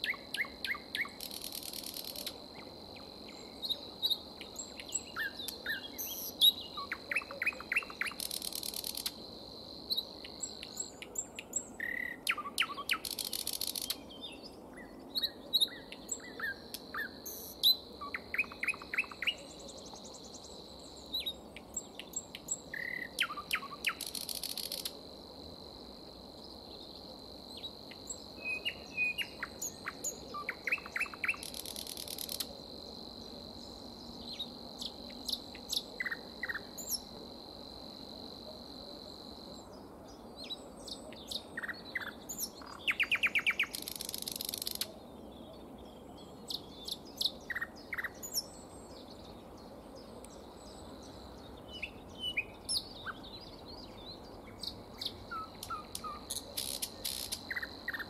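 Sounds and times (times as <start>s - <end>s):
nightingale singing: 0.0s - 9.2s, 9.8s - 24.9s, 26.7s - 32.5s, 33.5s - 37.1s, 40.3s - 58.0s.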